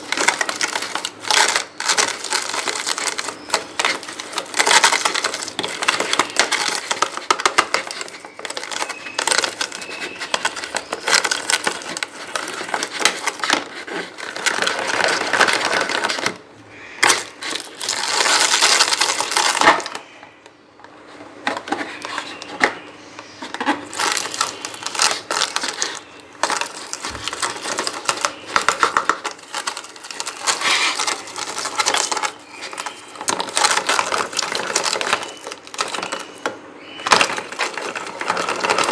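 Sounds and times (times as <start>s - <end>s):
lovebirds chattering and chirping: 0.0s - 20.4s, 21.4s - 38.9s.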